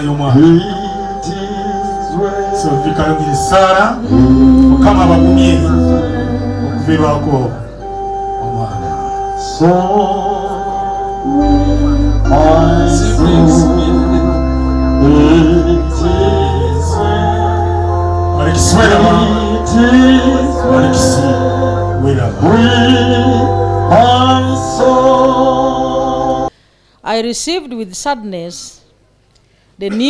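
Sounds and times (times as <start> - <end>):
deep bass line: 0.0 - 26.5
electronic organ chords: 0.0 - 26.6
hymn singing: 0.0 - 26.6.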